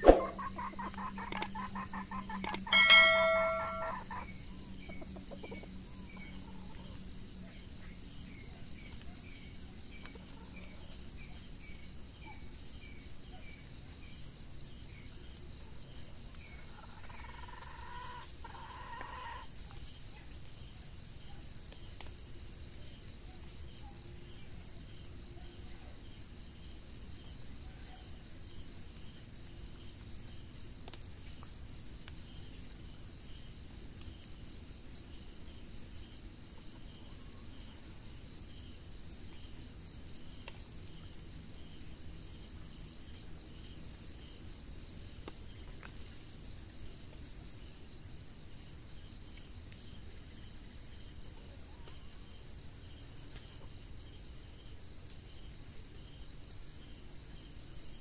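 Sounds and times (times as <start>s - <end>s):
insect chirping: 0.0s - 58.0s
insects buzzing: 0.0s - 58.0s.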